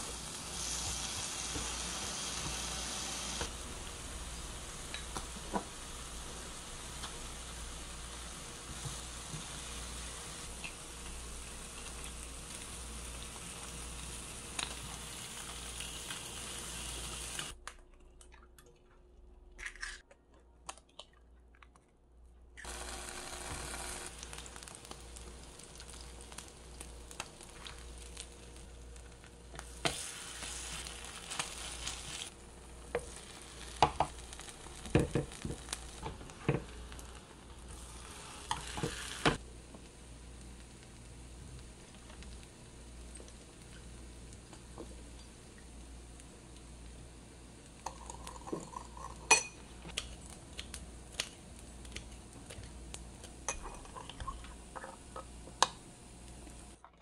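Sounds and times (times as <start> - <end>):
food sizzling in a pan: 0.0 - 17.6, 22.6 - 51.9.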